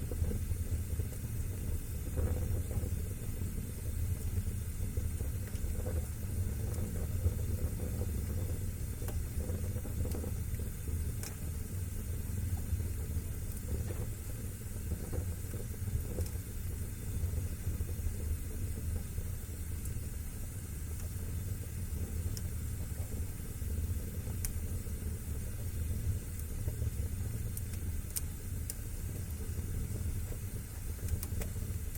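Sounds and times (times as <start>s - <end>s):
fire crackling and popping: 0.0s - 31.9s
wood fire rumbling: 0.0s - 31.9s.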